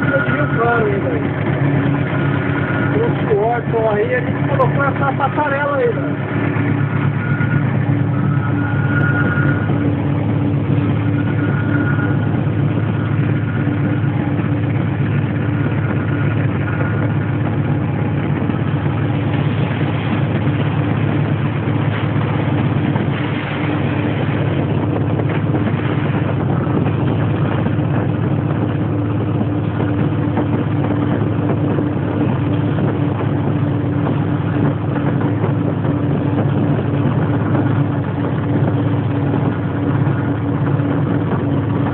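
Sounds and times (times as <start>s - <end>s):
diesel locomotive engine hum: 0.0s - 41.9s.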